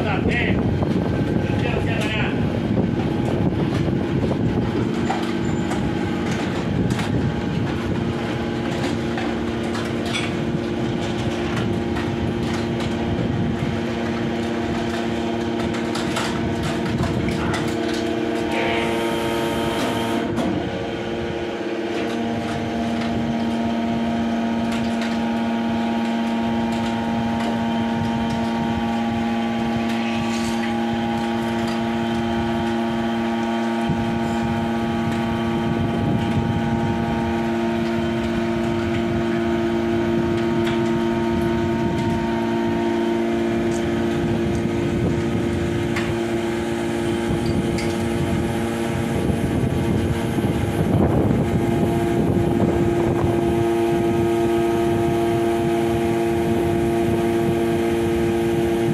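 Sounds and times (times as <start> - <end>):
hydraulic power unit humming: 0.0 - 58.9.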